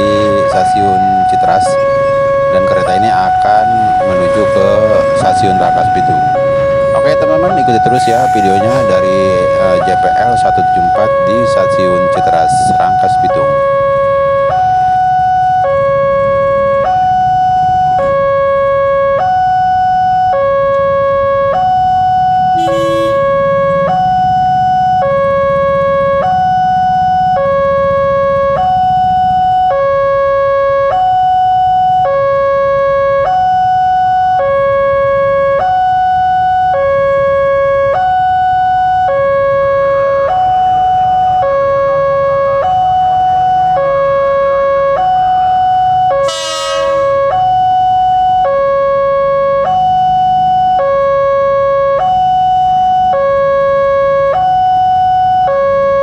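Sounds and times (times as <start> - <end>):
railroad crossing alarm: 0.0 - 56.0
rumble of idling engines: 0.0 - 56.0.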